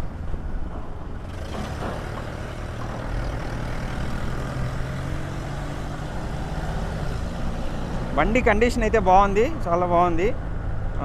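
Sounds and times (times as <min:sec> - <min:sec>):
road noise: 0:00.0 - 0:11.0
street traffic: 0:00.0 - 0:11.0.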